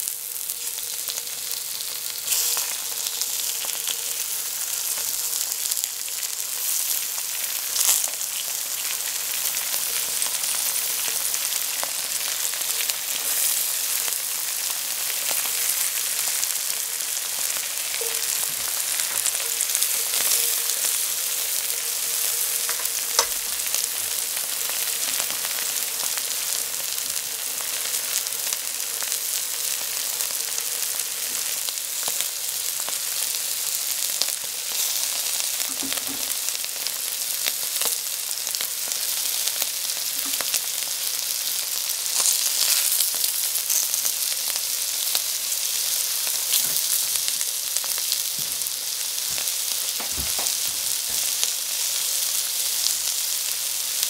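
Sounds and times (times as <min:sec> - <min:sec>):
oil sizzling around vegetables: 0:00.0 - 0:54.0.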